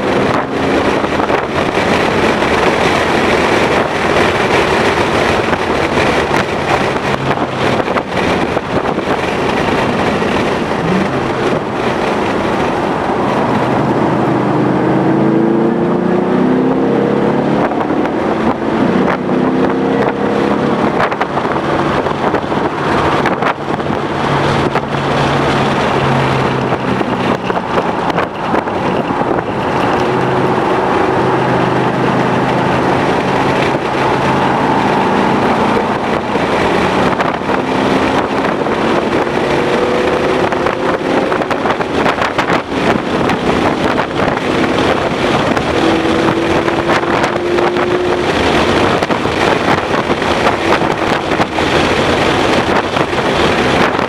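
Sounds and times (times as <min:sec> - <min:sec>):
car engine revving hard: 0:00.0 - 0:54.0
wind noise: 0:00.0 - 0:54.0.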